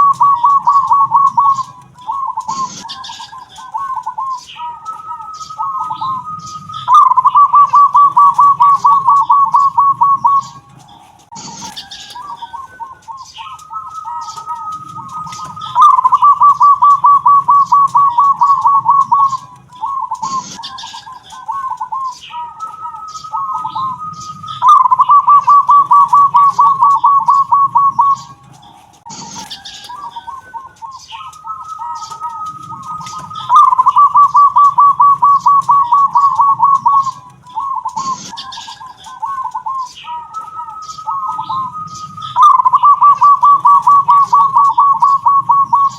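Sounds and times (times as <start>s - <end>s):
dove cooing song: 0.0s - 45.9s
faint high bird chirps: 0.0s - 45.9s.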